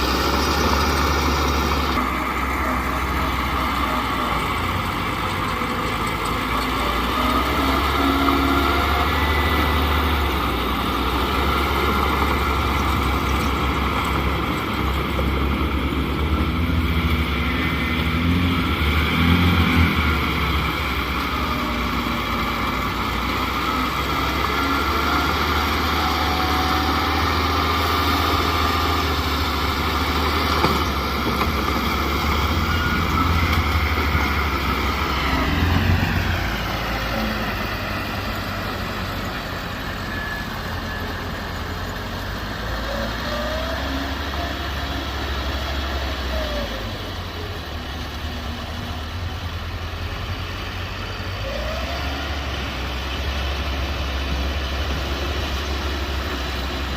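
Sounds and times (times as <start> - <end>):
heavy diesel engine under load: 0.0 - 56.9.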